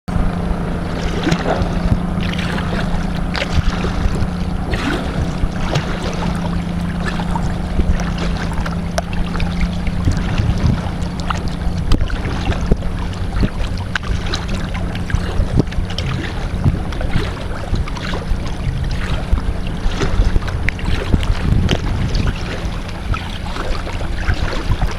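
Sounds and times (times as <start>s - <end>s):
low motor drone: 0.1s - 24.9s
water noise: 0.1s - 24.9s
wind on microphone: 0.1s - 24.9s
paddle splashes and drips: 0.7s - 24.9s.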